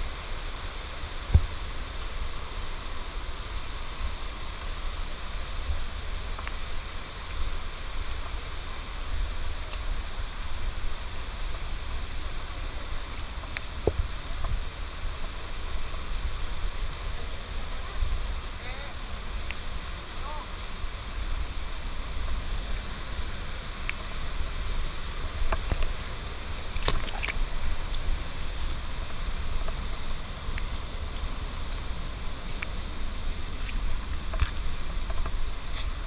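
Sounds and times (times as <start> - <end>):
microphone hiss: 0.0 - 36.0
wind and handling rumble: 0.0 - 36.0.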